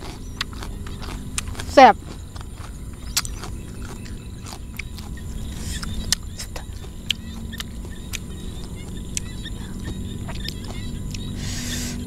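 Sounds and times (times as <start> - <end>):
low rumble: 0.0 - 11.4
frogs clicking and chirping: 0.0 - 12.0.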